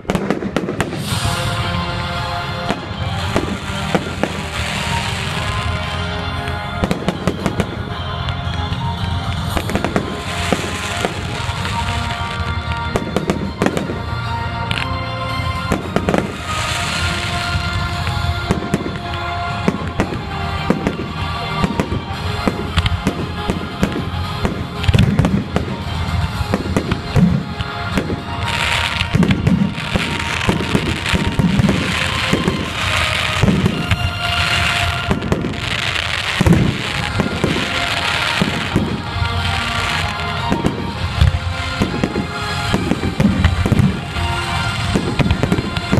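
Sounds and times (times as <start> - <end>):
fireworks banging and crackling: 0.0 - 45.9.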